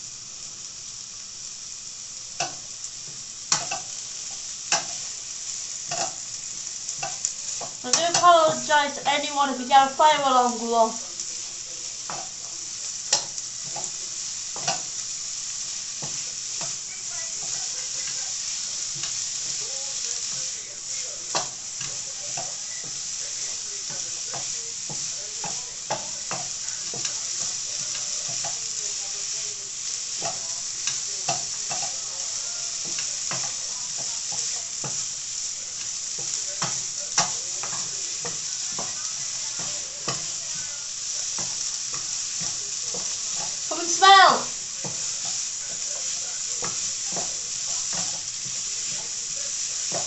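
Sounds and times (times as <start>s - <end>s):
food sizzling in a pan: 0.0s - 50.0s
pops and clicks of frying: 0.0s - 50.0s.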